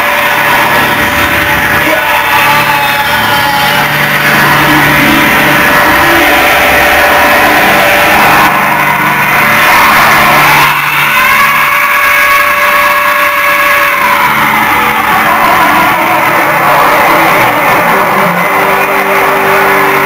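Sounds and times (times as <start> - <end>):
industrial rock band playing live: 0.0 - 20.0.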